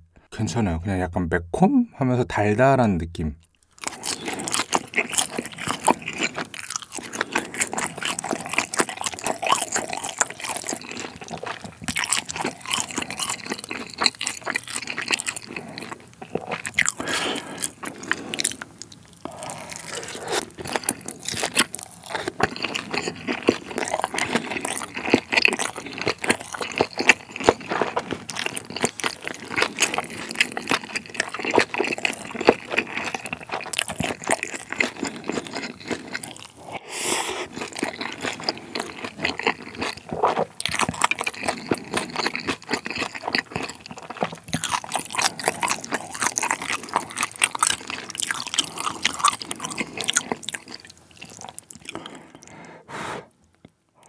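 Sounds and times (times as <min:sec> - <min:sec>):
crunchy chewing: 0:03.7 - 0:53.8.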